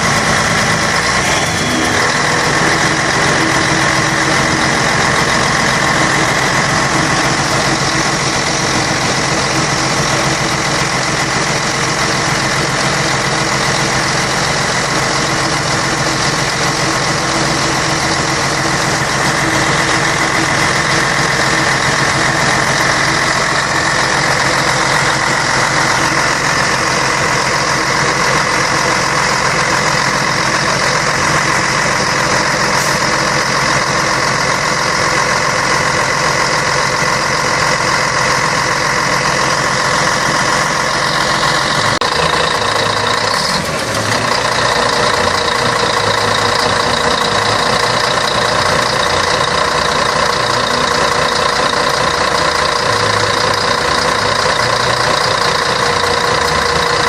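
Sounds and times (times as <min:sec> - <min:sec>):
constant whine: 0:00.0 - 0:57.0
diesel bus engine running: 0:00.0 - 0:57.0.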